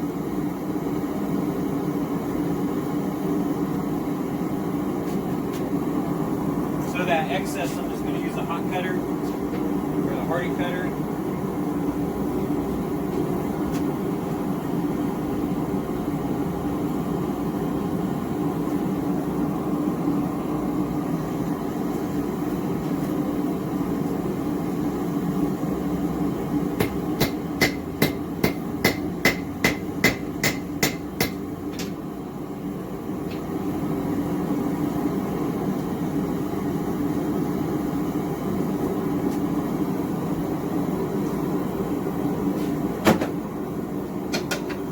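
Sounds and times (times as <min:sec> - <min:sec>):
gas forge burner roaring: 0:00.0 - 0:44.9.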